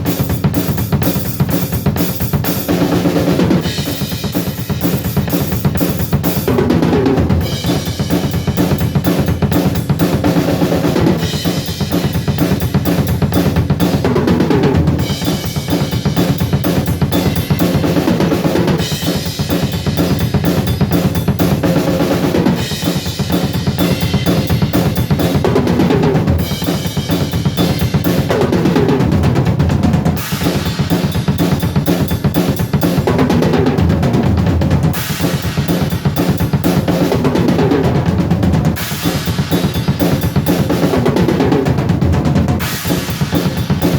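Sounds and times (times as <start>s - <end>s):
fast kick drum strokes: 0.0s - 43.9s.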